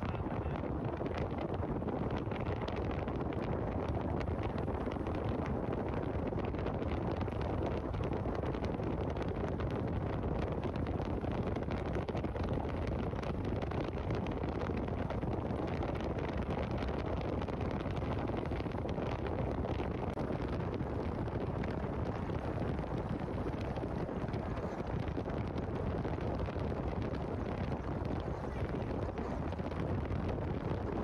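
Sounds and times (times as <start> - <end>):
wind blowing across microphone: 0.0 - 31.0.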